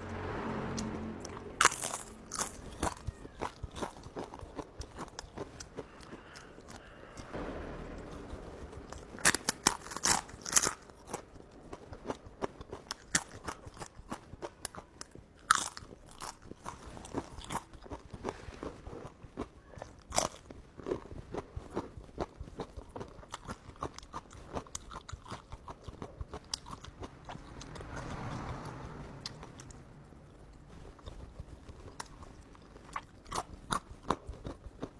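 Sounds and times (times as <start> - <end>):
person chewing with crunches: 1.2 - 7.4, 9.2 - 28.2, 29.2 - 34.9.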